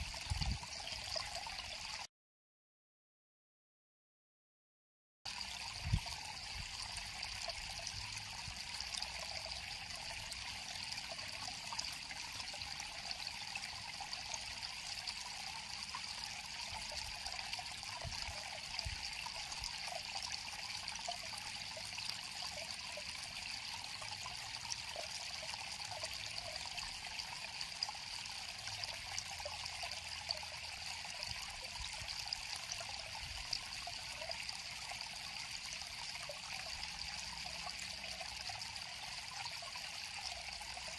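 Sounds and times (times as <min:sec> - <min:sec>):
river water flowing over stones: 0:00.0 - 0:02.1, 0:05.3 - 0:40.9.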